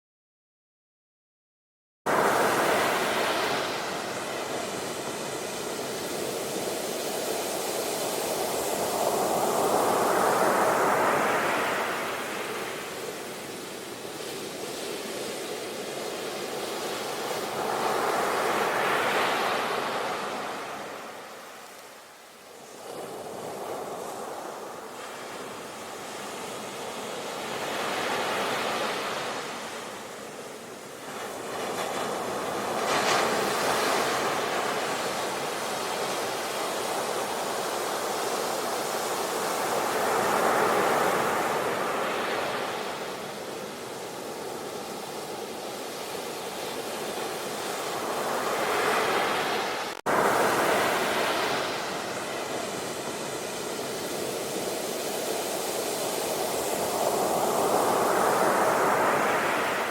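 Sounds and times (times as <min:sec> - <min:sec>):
ocean waves breaking: 0:02.1 - 0:59.9.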